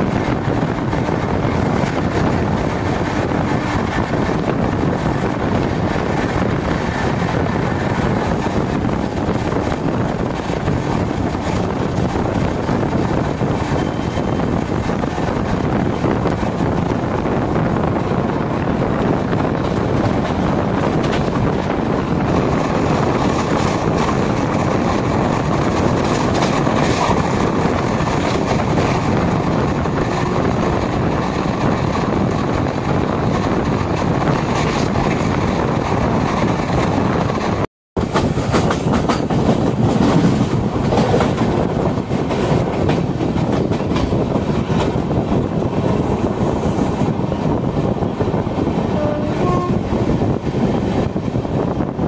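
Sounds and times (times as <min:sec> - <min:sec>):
train wheels and wind rushing: 0:00.0 - 0:52.0.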